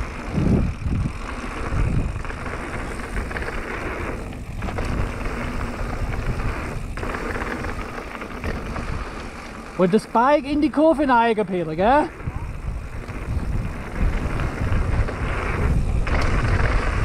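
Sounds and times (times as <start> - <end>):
bike tyres crunching on gravel: 0.0 - 17.0
wind buffeting microphone: 0.0 - 17.0.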